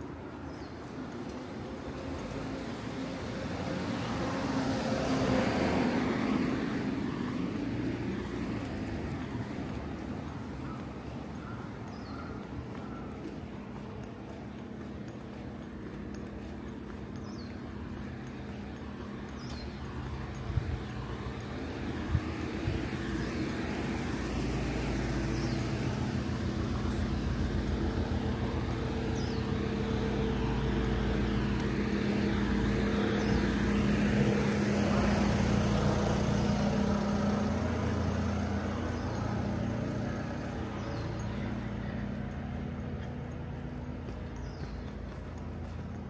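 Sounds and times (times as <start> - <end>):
street traffic: 0.0 - 46.0
vehicle engine running: 0.0 - 46.0.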